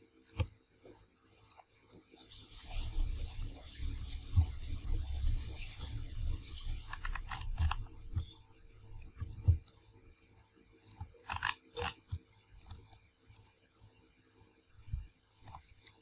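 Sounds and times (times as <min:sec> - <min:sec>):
computer mouse clicks: 0:00.2 - 0:09.9, 0:10.8 - 0:13.7, 0:14.8 - 0:16.0.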